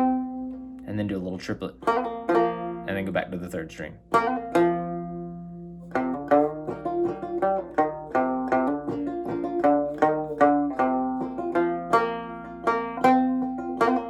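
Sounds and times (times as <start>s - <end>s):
banjo plucked notes and chords: 0.0s - 14.0s.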